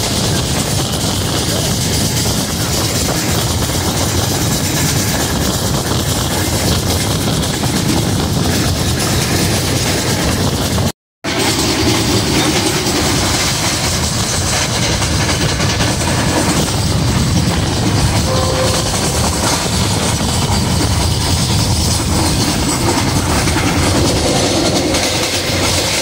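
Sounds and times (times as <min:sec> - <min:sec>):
train wheel and rail rush: 0:00.0 - 0:26.0
wheels clickety-clack on track: 0:00.0 - 0:26.0.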